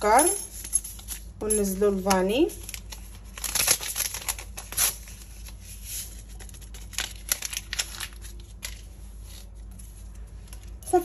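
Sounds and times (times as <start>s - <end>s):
paper packet crinkling: 1.9s - 10.8s.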